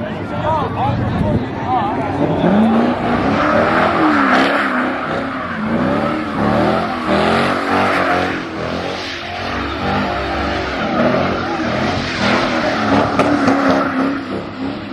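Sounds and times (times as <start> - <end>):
car engine revving: 0.9 - 14.9
spinning tyres hissing: 2.0 - 14.9.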